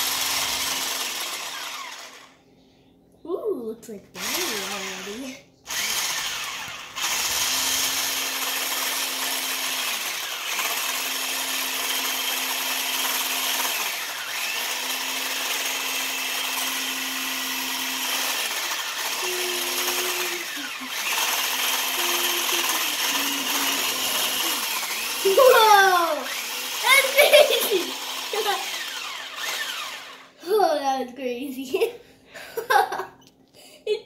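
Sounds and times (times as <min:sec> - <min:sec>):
electric mixer motor humming: 0:00.0 - 0:02.4, 0:04.2 - 0:30.4.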